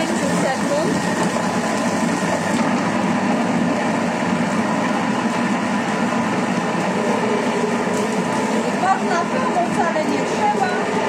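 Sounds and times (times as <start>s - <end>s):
food processor blending: 0.0s - 11.0s.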